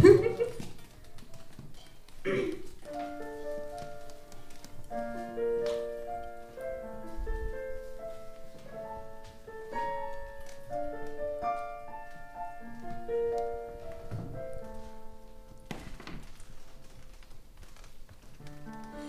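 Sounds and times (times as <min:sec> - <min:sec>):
electric piano chords: 0:00.0 - 0:17.5.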